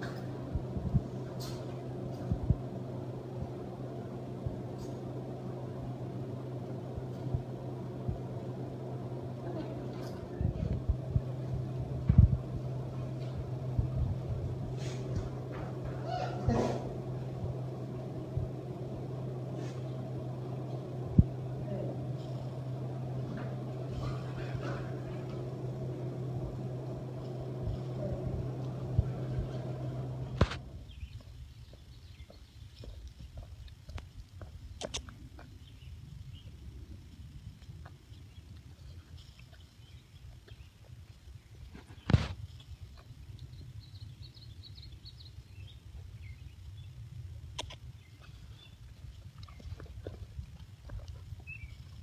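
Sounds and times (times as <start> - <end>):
low outdoor rumble: 0.0 - 52.0
steady low hum: 0.0 - 52.0.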